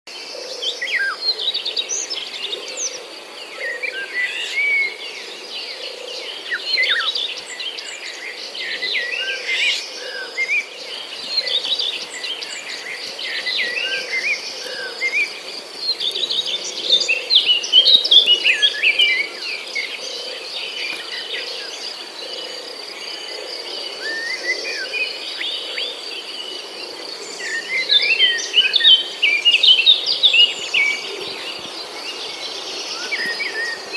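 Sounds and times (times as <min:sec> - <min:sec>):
high insect drone: 0:00.2 - 0:33.9
small birds chirping: 0:00.8 - 0:33.9.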